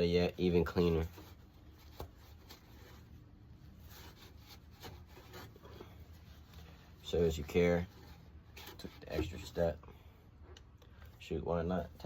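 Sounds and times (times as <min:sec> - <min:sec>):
rag rubbing and rustling: 0:00.0 - 0:09.8.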